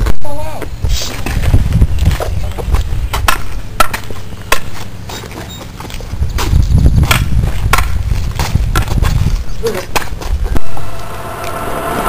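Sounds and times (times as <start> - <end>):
steady low rumble: 0.0 - 5.1, 5.7 - 12.0.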